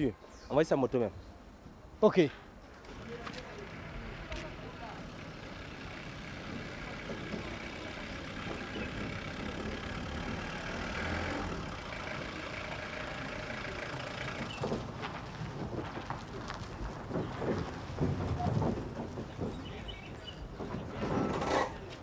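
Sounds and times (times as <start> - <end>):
van engine running slowly: 2.9 - 22.0.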